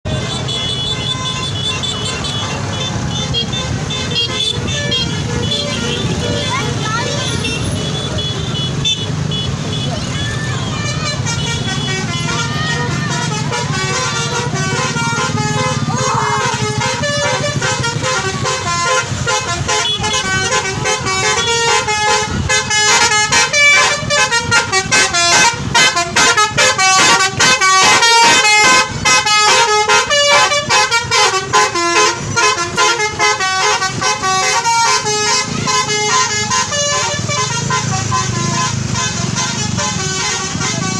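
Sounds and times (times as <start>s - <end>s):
multi-tone bus horn melody: 0.1s - 40.9s.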